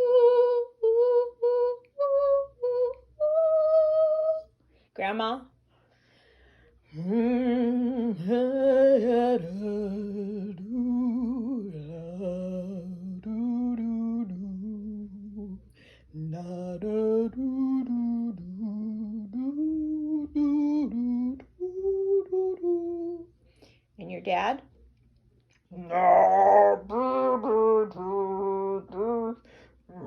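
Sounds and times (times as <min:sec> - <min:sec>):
person singing wordless melody: 0:00.0 - 0:04.5, 0:06.8 - 0:23.4, 0:25.7 - 0:30.0.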